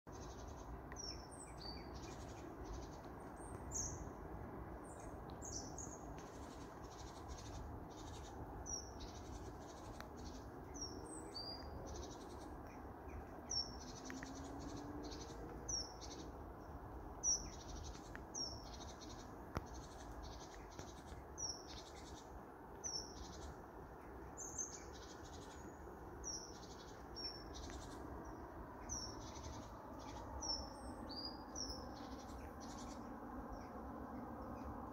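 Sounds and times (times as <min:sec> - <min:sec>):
faint rising hum: 0:00.1 - 0:34.9
low background rumble: 0:00.1 - 0:34.9
small birds chirping: 0:00.1 - 0:34.9.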